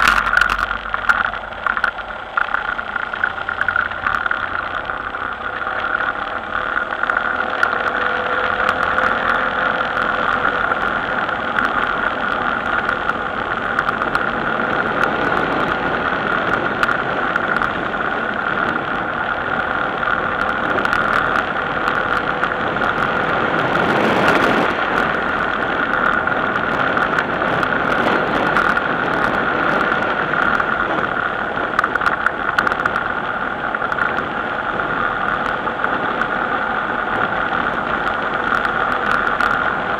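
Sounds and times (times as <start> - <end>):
small clicks and rattles: 0.0 - 39.9
vehicle running noise: 0.0 - 39.9.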